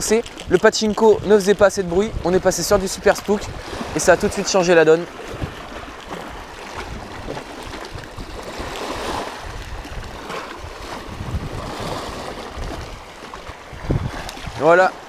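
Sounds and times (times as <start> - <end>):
waves breaking against rocks: 0.0 - 15.0
wind buffeting microphone: 0.0 - 15.0.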